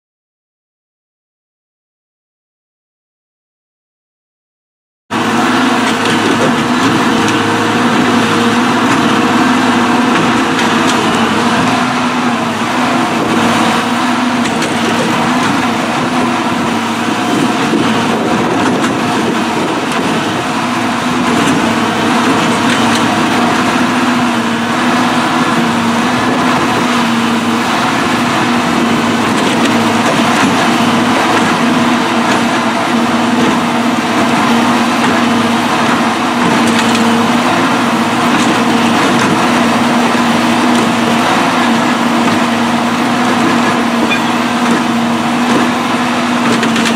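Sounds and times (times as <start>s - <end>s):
machine engine and hydraulics: 5.1s - 46.9s.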